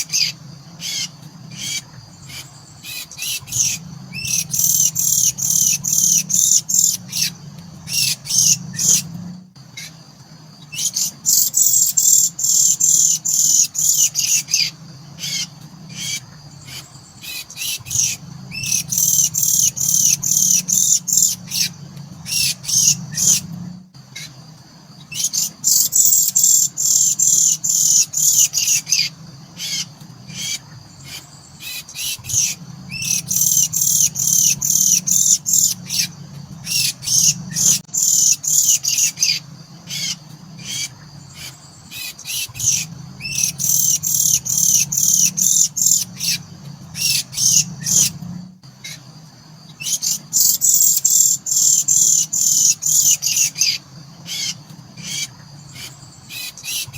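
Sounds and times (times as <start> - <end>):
birds chirping rapidly: 0.0 - 56.9
steady low hum: 0.0 - 56.9.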